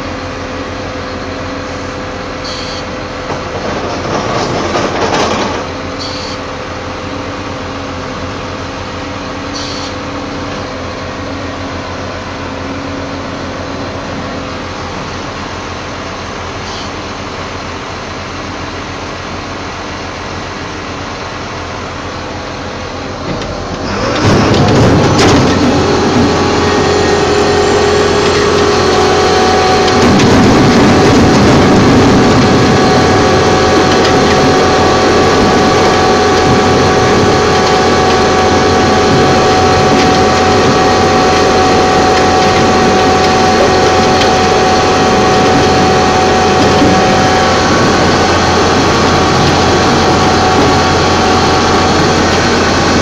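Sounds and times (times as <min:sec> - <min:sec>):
heavy machinery engine with whine: 0:00.0 - 0:53.0.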